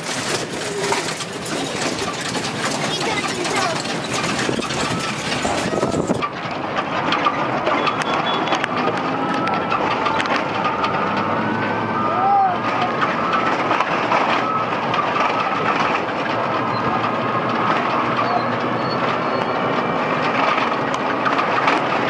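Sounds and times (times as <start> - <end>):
vehicle body rattling: 0.0 - 22.0
vehicle engine and road noise: 0.0 - 22.0.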